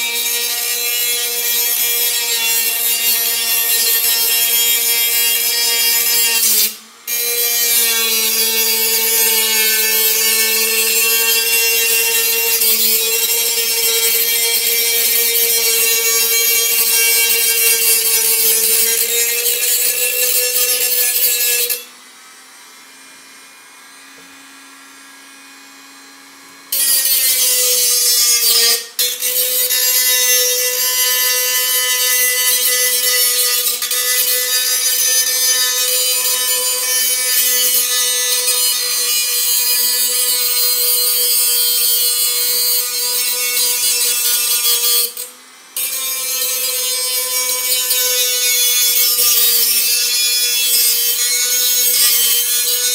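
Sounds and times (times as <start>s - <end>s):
cutoff wheel grinding metal: 0.0s - 21.9s, 26.6s - 52.9s.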